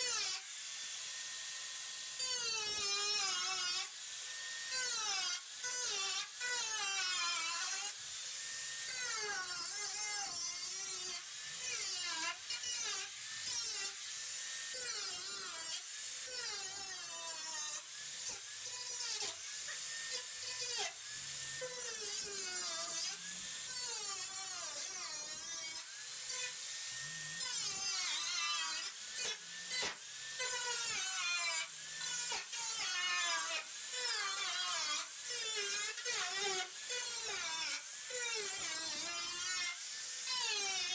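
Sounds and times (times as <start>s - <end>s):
power cut-off tool cutting metal: 0.0s - 40.9s.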